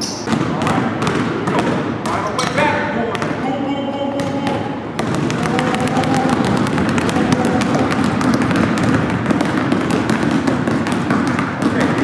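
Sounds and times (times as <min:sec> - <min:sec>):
basketballs bouncing on wooden floor: 0:00.0 - 0:12.0.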